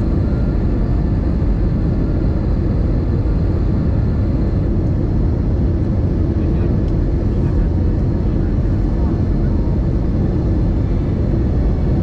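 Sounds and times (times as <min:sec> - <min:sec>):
jet engines droning: 0:00.0 - 0:12.0.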